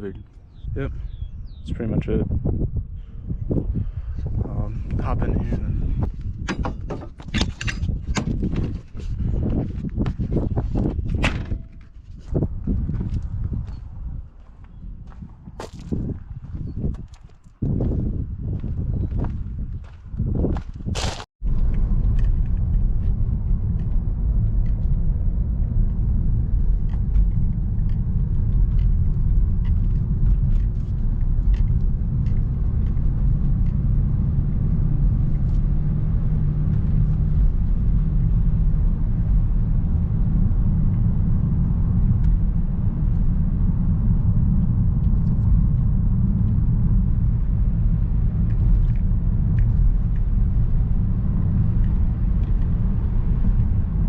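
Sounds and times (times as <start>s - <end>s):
car driving rumble: 3.5s - 54.0s.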